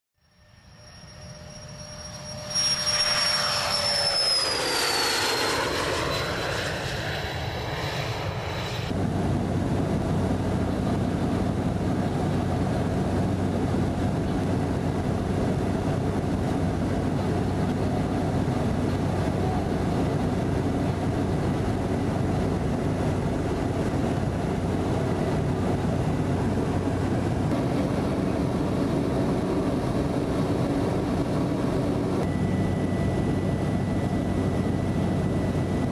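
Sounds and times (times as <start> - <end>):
aircraft low drone: 0.2 - 35.9
jet taking off: 0.3 - 35.9.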